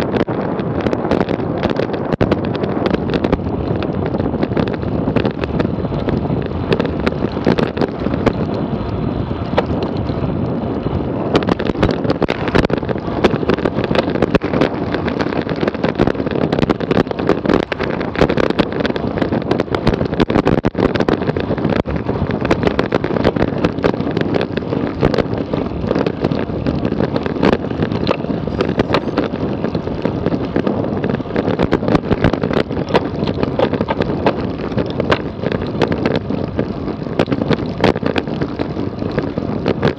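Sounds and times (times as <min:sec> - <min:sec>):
bike knocks and rattles: 0:00.0 - 0:39.9
tyre and road noise: 0:00.0 - 0:39.9
wind rushing over microphone: 0:00.0 - 0:39.9.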